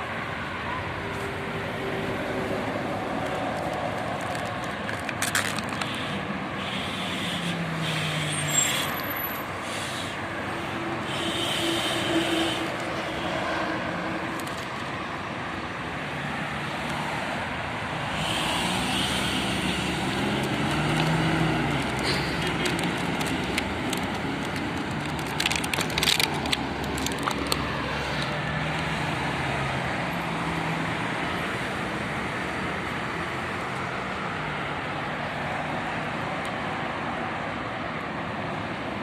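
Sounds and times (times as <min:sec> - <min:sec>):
passing vehicles: 0:00.0 - 0:39.0.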